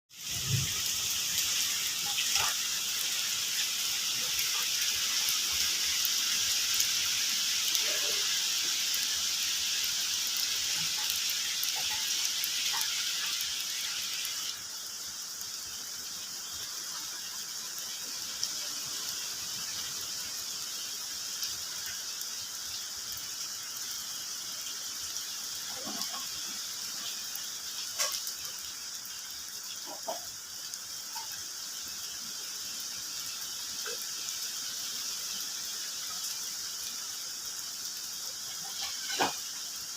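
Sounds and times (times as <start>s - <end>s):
rain hiss: 0.1s - 39.9s.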